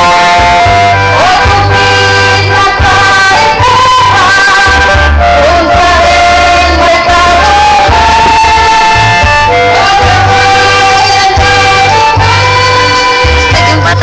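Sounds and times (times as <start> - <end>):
amplified music with heavy bass: 0.0 - 14.0
women singing in group: 0.0 - 14.0.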